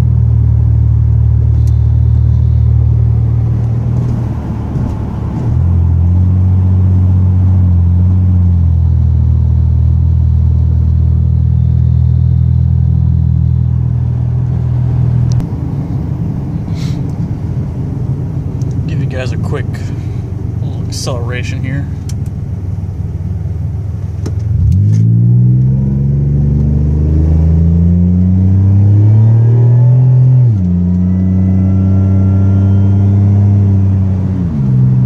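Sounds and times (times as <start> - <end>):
car exhaust drone: 0.0 - 35.0.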